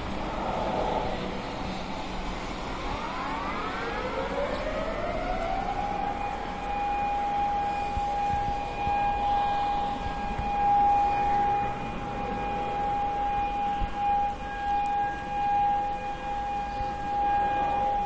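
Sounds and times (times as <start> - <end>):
warning sirens winding up: 0.0 - 18.0.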